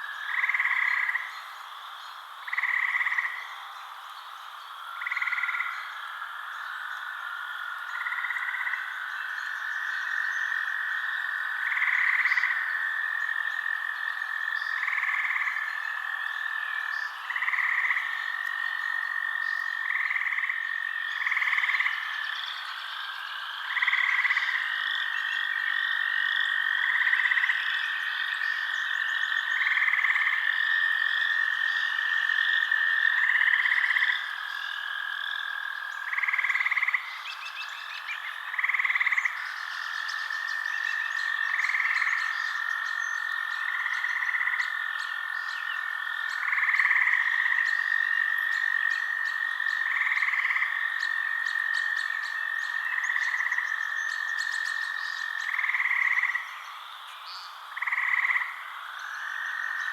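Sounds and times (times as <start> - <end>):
frogs trilling and calling: 0.0 - 59.9.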